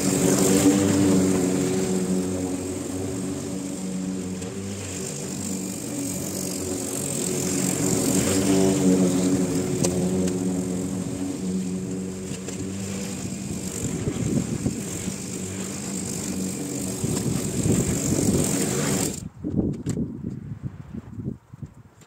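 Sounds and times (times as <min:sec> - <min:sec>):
lawn mower running: 0:00.0 - 0:19.3.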